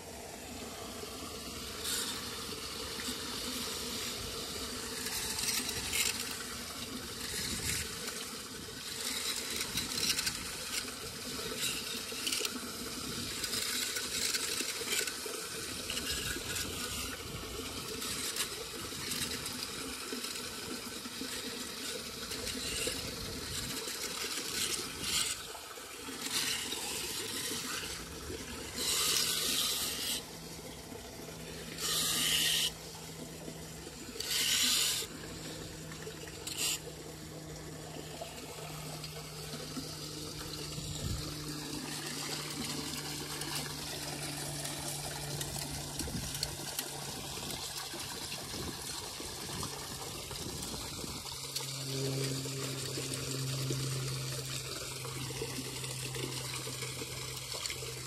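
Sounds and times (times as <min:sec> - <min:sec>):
low steady hum: 0:00.0 - 0:58.0
water rushing into drain: 0:00.0 - 0:58.0.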